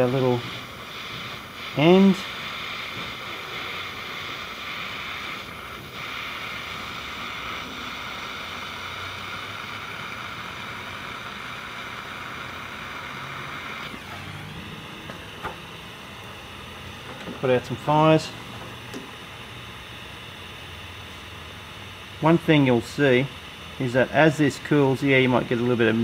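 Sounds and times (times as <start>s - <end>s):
butane torch hissing: 0.0s - 26.0s.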